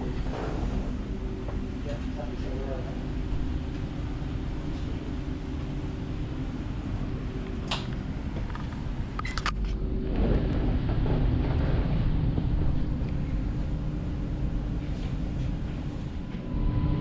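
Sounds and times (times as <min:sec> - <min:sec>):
electric train rumble: 0:00.0 - 0:17.0
faint steady hum: 0:00.0 - 0:17.0.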